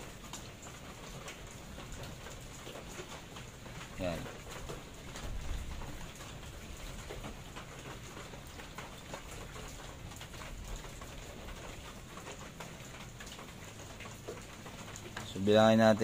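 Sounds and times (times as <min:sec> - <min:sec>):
raindrops tapping: 0:00.0 - 0:16.0
steady rain falling: 0:00.0 - 0:16.0.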